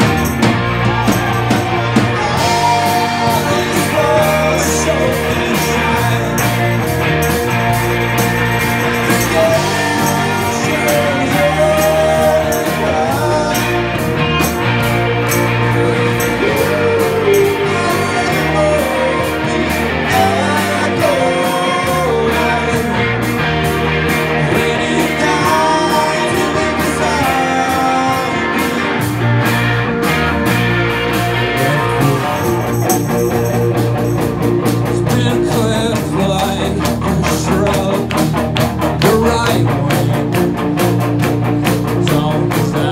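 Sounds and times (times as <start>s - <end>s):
person singing: 0.0s - 23.2s, 24.2s - 29.0s, 31.5s - 34.0s, 34.8s - 38.3s, 38.9s - 40.4s, 41.8s - 42.9s
rock band playing: 0.0s - 42.9s.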